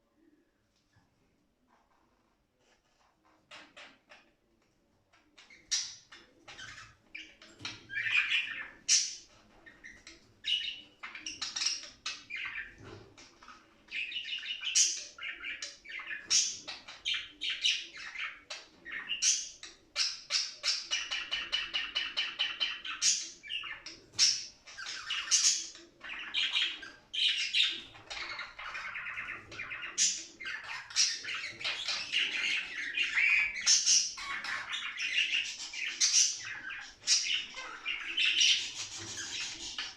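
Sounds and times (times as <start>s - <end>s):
budgerigars chirping and warbling: 5.1s - 39.9s.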